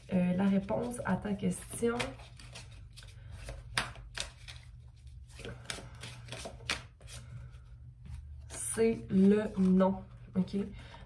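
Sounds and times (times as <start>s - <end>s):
low steady hum: 0.0s - 11.0s
cards being shuffled: 0.4s - 10.0s.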